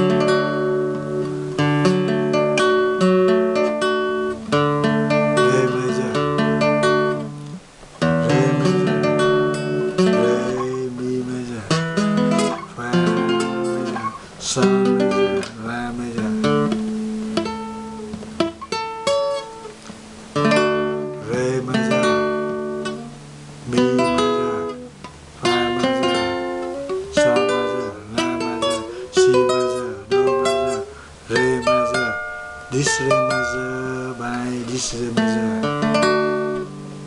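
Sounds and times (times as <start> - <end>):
flamenco guitar strumming chords: 0.0 - 37.0.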